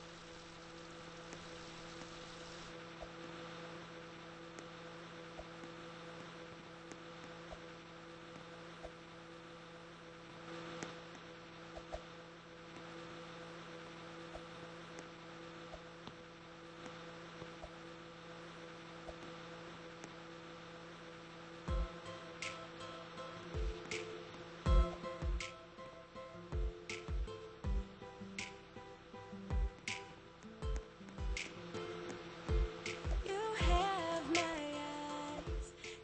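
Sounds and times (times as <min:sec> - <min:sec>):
fan whirring: 0:00.0 - 0:36.0
microwave oven hum: 0:00.0 - 0:36.0.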